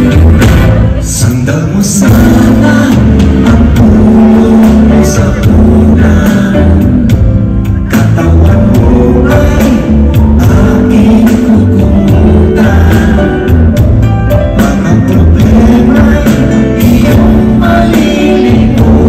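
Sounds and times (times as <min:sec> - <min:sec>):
men singing: 0:00.0 - 0:13.9, 0:14.6 - 0:19.0
live band music: 0:00.0 - 0:19.0.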